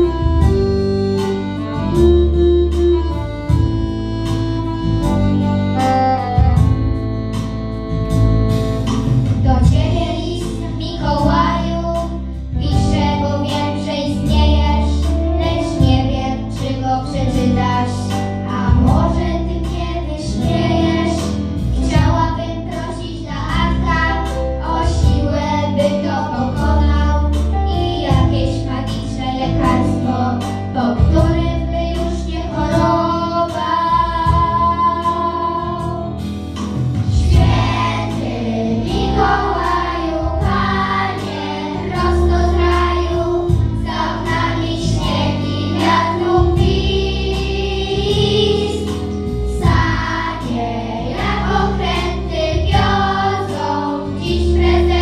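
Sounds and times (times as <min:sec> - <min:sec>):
instrumental accompaniment with bass: 0:00.0 - 0:55.0
children's choir singing: 0:09.6 - 0:36.2, 0:37.1 - 0:55.0.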